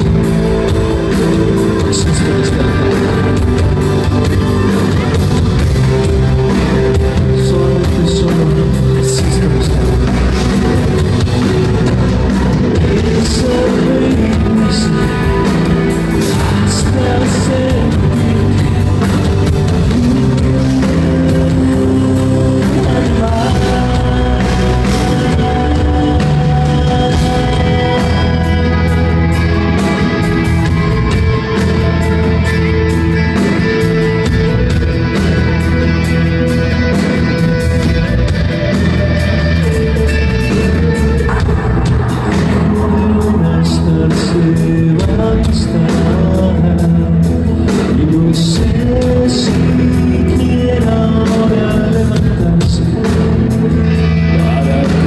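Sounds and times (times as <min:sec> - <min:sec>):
man singing: 0:00.0 - 0:32.3, 0:39.6 - 0:55.0
live rock band with acoustic guitar: 0:00.0 - 0:55.0.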